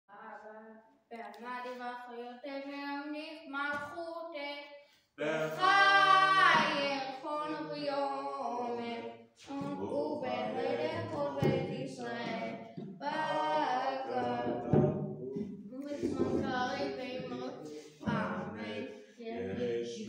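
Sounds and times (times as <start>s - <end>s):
boy chanting: 0.1s - 4.6s, 5.2s - 20.0s.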